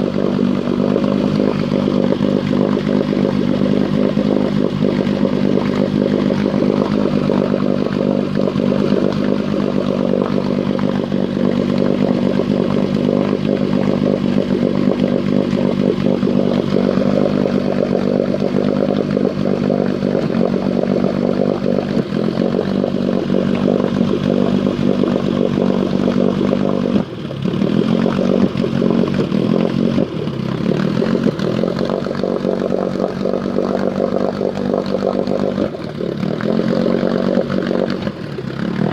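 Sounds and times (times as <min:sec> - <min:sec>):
engine idling roughly: 0:00.0 - 0:38.9.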